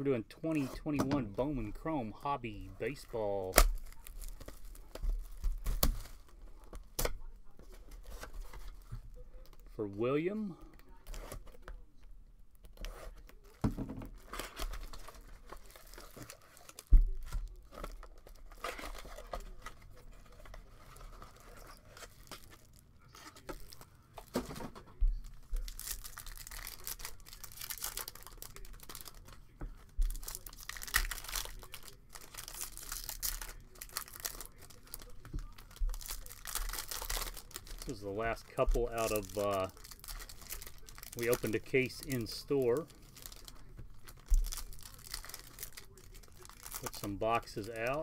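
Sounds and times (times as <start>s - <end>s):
foil packs crinkling and ripping: 0.9s - 7.1s, 12.8s - 48.0s.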